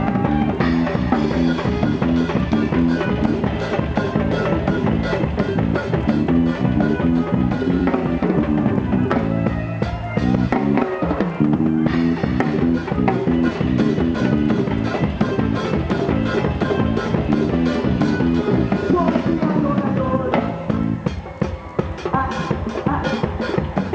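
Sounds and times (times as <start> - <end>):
band playing live: 0.0 - 23.9.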